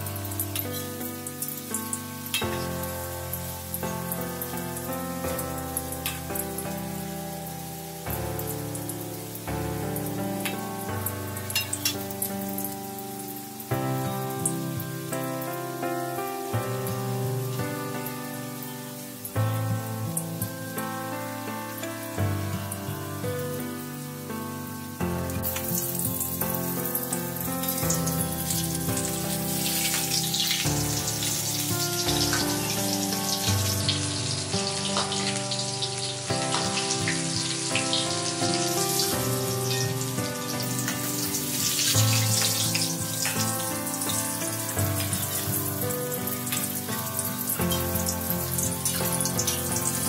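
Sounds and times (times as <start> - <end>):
background music: 0.0 - 50.0
tofu sizzling in hot oil: 0.0 - 50.0.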